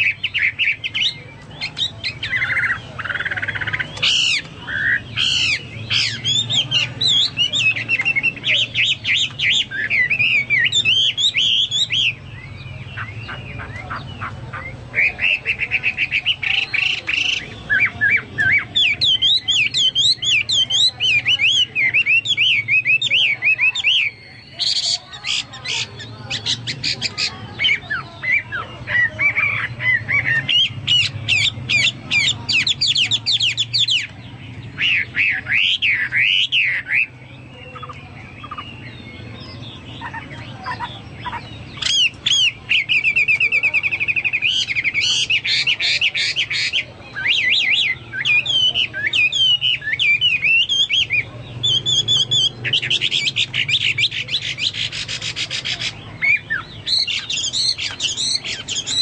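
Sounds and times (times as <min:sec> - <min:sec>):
songbird singing trills and whistles: 0:00.0 - 0:59.0.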